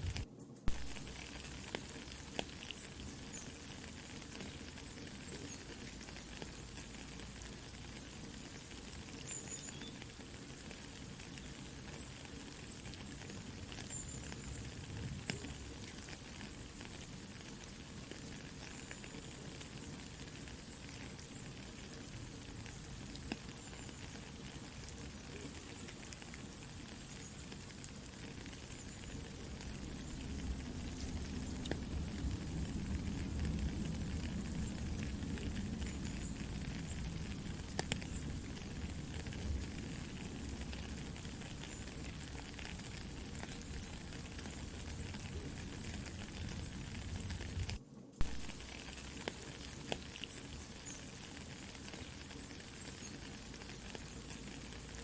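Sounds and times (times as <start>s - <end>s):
campfire crackling and popping: 0.0s - 55.0s
soft steady rain: 0.0s - 55.0s.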